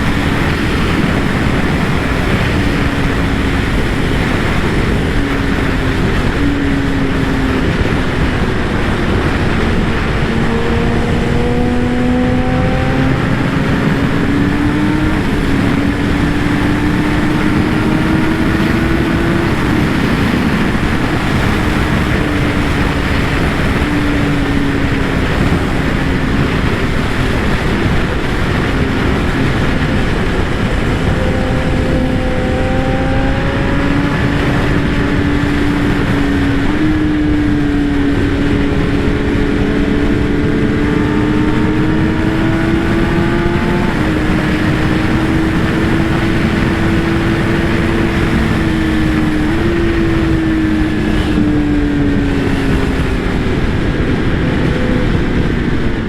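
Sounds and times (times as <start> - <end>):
motorcycle engine at road speed: 0.0 - 56.0
wind rush on microphone: 0.0 - 56.0.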